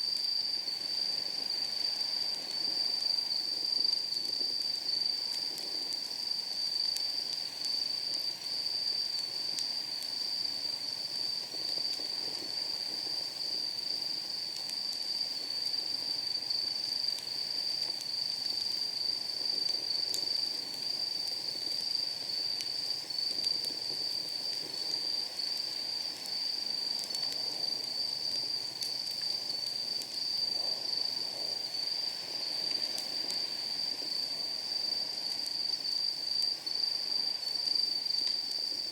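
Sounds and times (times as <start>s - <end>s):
insects trilling: 0.1s - 38.9s
fire crackling: 0.5s - 38.9s.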